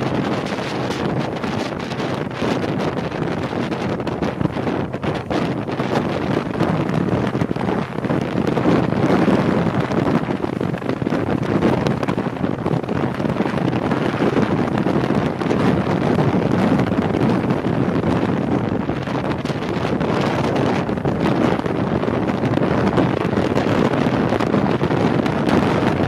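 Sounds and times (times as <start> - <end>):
boat engine: 0.0 - 26.0
wind buffeting microphone: 0.0 - 26.0.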